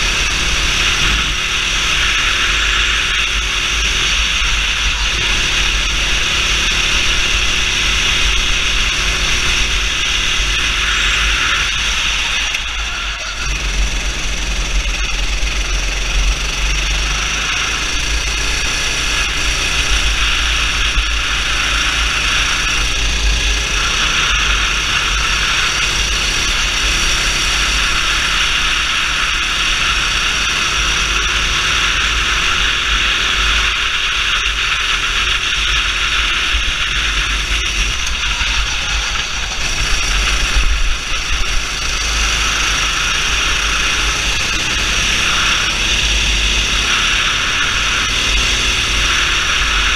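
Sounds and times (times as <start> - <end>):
kart engine running hard: 0.0 - 49.9.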